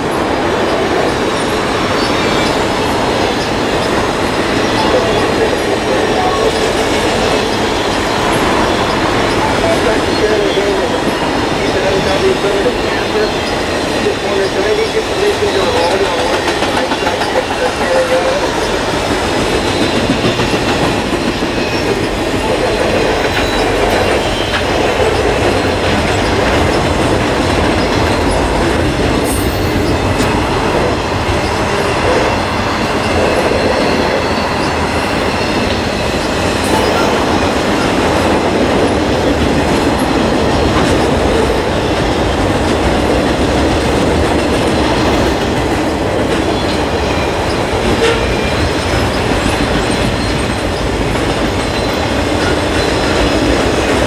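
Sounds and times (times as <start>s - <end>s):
steel train wheels on rails: 0.0s - 54.0s.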